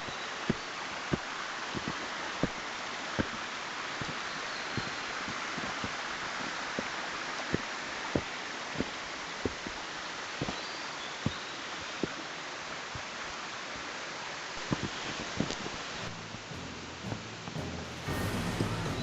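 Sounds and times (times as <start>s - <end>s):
steady rushing outdoor noise: 0.0s - 19.0s.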